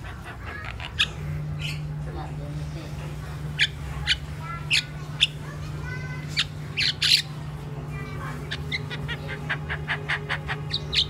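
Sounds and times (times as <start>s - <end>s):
bird chirping and squawking: 0.0s - 2.0s, 3.3s - 11.0s
steady low hum: 0.0s - 11.0s.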